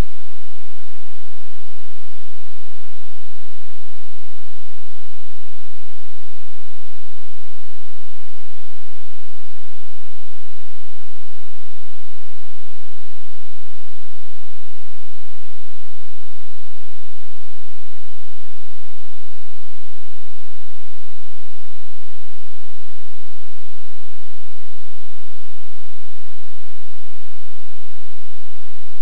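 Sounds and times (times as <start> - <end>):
electrical hum with hiss: 0.0 - 29.0.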